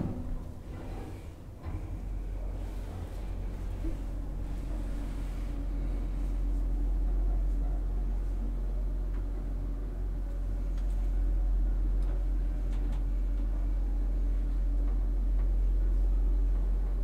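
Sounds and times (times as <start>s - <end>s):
elevator drive humming: 0.0s - 17.0s.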